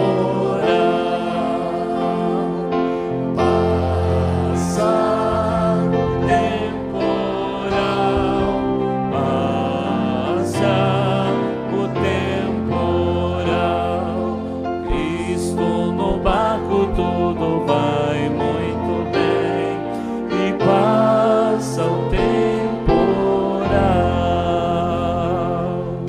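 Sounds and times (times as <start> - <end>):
church band playing: 0.0 - 26.0
man and woman singing gospel: 0.0 - 26.0.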